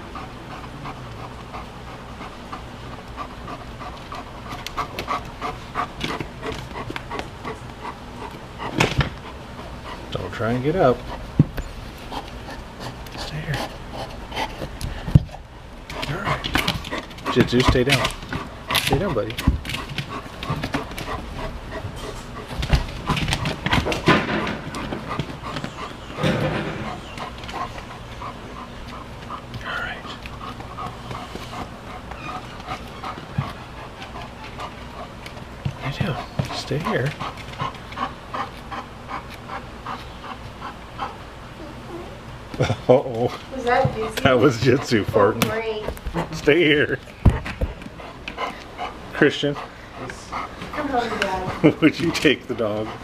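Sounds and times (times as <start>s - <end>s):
dog panting rapidly: 0.0s - 41.8s, 42.7s - 53.0s.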